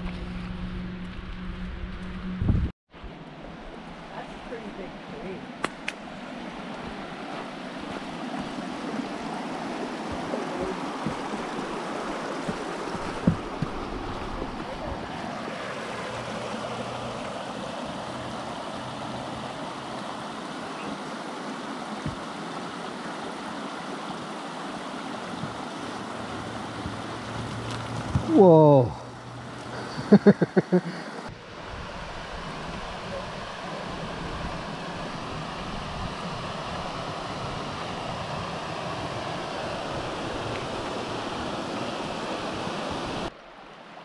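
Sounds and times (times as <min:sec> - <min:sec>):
creek rushing: 0:03.0 - 0:44.0.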